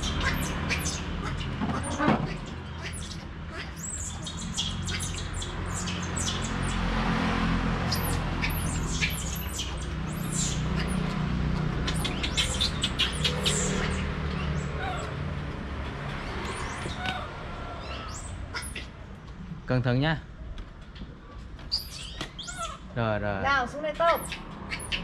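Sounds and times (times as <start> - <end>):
small birds chirping: 0.0 - 7.1, 7.8 - 19.2, 20.8 - 25.0.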